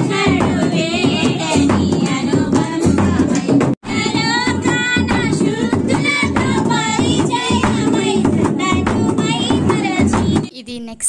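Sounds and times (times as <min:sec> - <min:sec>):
music: 0:00.0 - 0:10.5.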